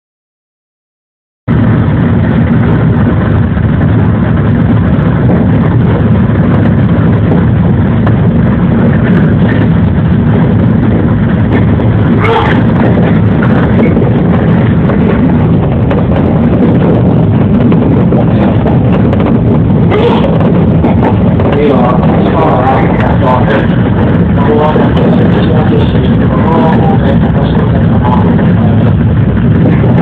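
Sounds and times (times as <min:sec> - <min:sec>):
train motors and wheels rumbling: 0:01.5 - 0:30.0.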